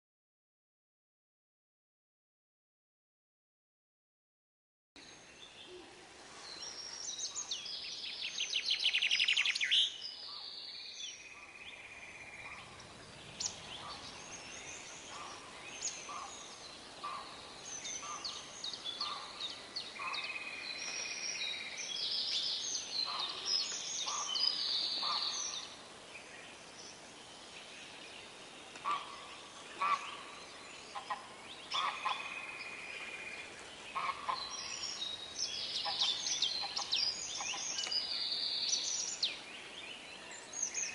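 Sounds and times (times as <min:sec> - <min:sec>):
birds chirping and trilling: 0:05.0 - 0:40.9.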